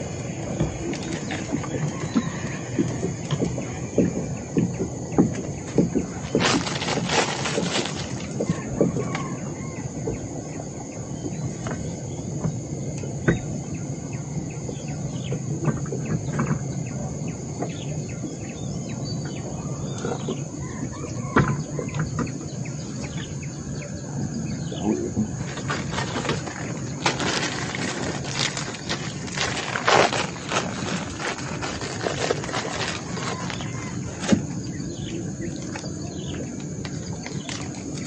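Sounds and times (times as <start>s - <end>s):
bird calls: 0.4s - 38.0s.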